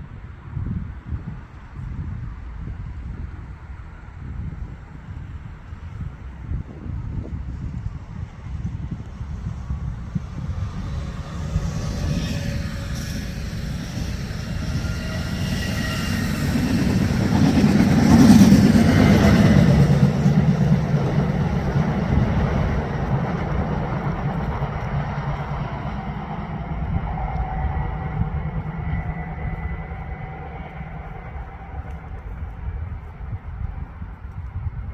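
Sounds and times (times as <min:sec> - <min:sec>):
train passing: 0:05.1 - 0:34.9.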